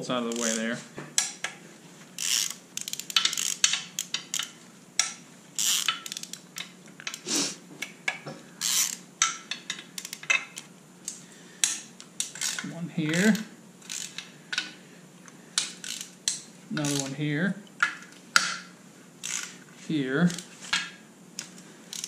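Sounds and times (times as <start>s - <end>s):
hand ratchet clicking: 0.3s - 1.6s, 2.2s - 7.2s, 7.8s - 14.8s, 15.6s - 17.2s, 17.8s - 19.6s, 20.3s - 22.0s.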